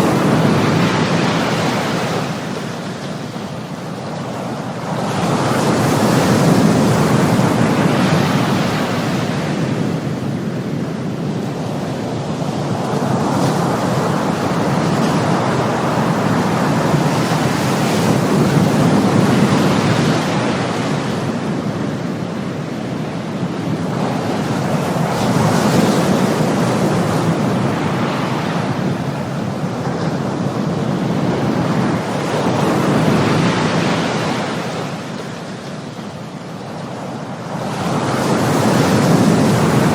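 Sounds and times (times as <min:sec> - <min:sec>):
ocean waves: 0:00.0 - 0:39.9.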